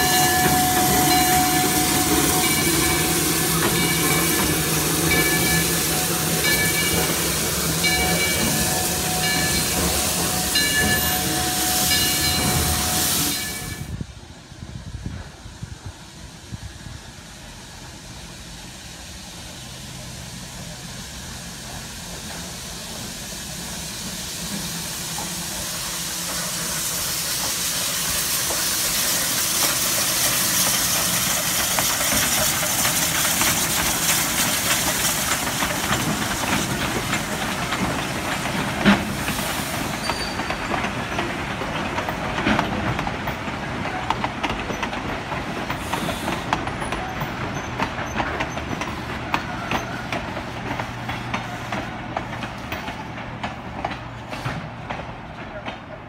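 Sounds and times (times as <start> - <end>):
wheels clacking over rail joints: 0.0 - 13.5, 24.4 - 56.0
hiss of steam: 0.0 - 52.8
steam locomotive passing: 0.0 - 56.0.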